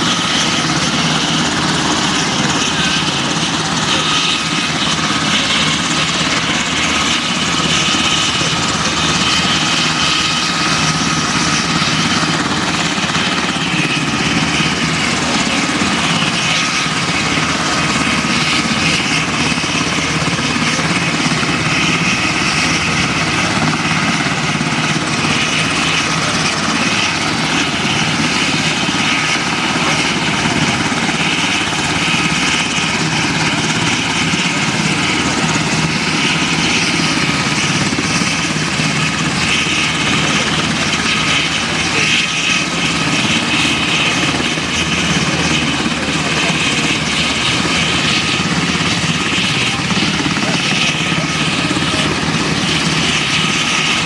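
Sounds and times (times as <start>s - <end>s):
helicopter rotors rushing: 0.0s - 54.0s
helicopter turbine whine: 0.0s - 54.0s.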